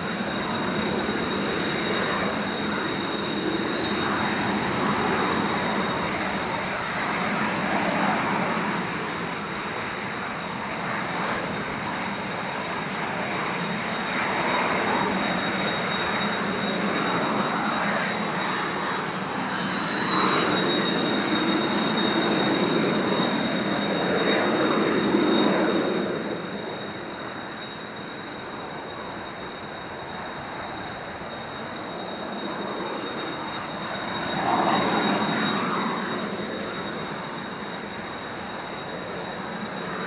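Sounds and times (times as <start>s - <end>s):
jet engine whine: 0.0s - 40.0s.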